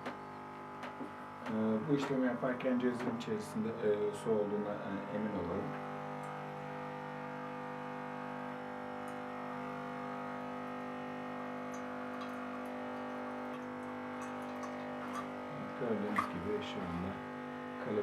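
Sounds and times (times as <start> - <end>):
espresso machine pump buzzing: 0.0 - 18.0.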